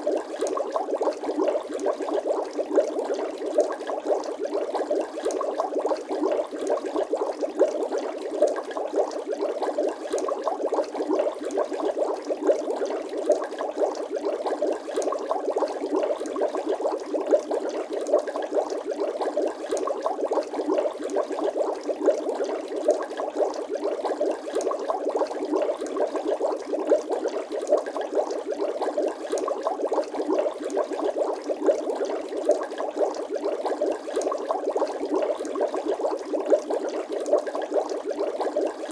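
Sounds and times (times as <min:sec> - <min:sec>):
liquid bubbling: 0:00.0 - 0:38.9.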